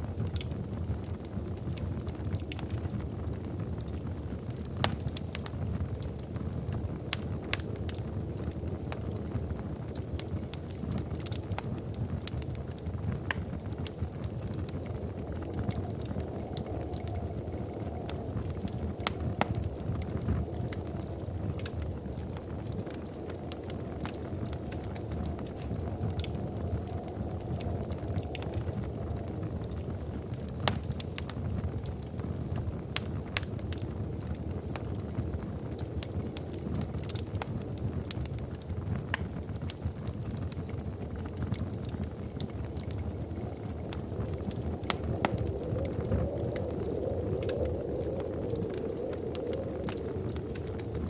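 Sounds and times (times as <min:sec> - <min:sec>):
fire popping and snapping: 0:00.0 - 0:51.0
fire rumbling: 0:00.0 - 0:51.0.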